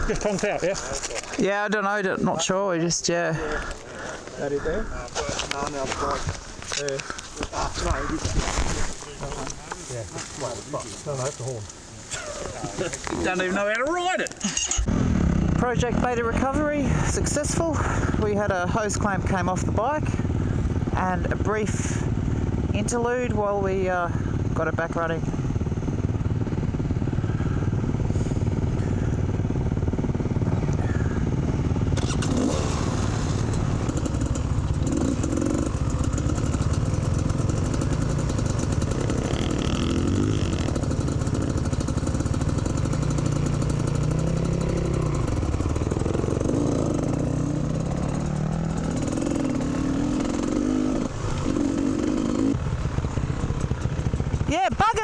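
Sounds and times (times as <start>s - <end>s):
dirt bike engine revving: 0.0s - 9.4s, 12.1s - 55.0s.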